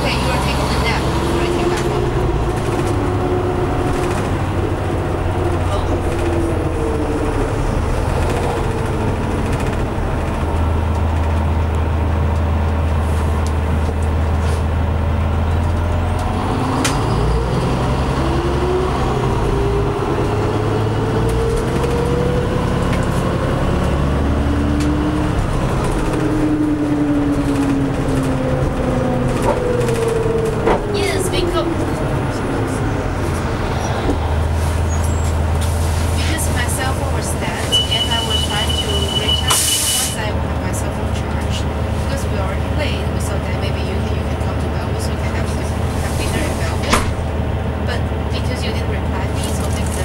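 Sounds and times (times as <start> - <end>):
diesel engine drone: 0.0 - 50.0.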